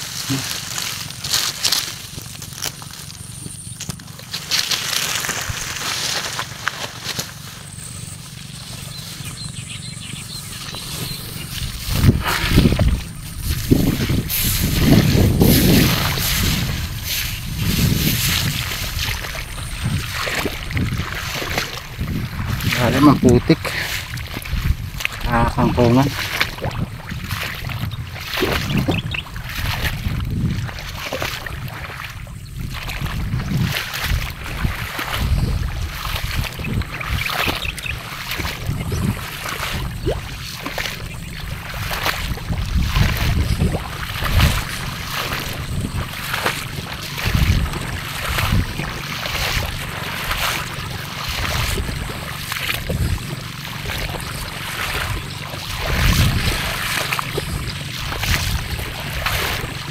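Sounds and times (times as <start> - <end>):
leaves and stems rustling: 0.0 - 59.9
sloshing steps in marsh water: 0.0 - 59.9.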